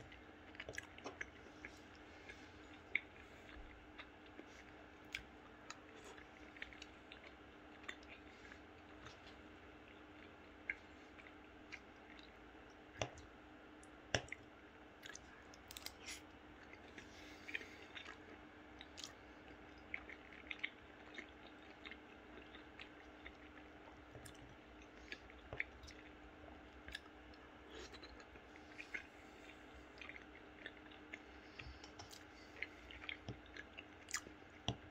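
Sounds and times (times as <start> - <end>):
close chewing with wet mouth sounds: 0.0 - 34.9.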